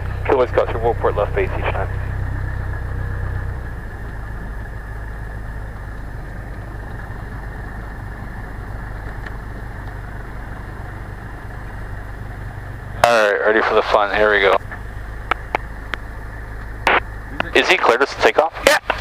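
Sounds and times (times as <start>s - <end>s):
propeller plane engine running: 0.0s - 19.0s.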